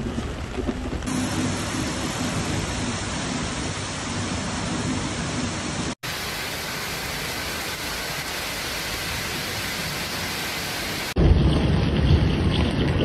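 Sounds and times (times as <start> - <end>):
heavy rain falling on trees: 0.0 - 13.0
water pouring through ceiling: 1.0 - 13.0.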